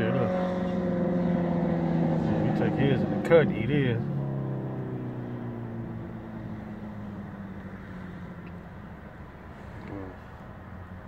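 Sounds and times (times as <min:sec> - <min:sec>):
vehicle engine: 0:00.0 - 0:11.0.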